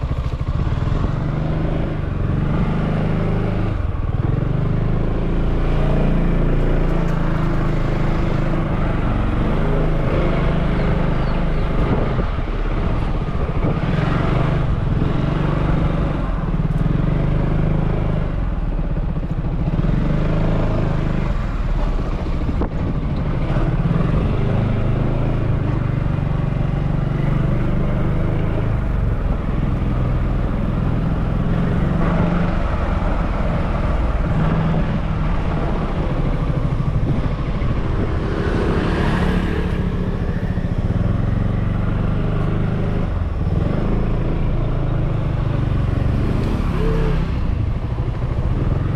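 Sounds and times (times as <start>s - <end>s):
motorbike engine running: 0.0s - 48.9s.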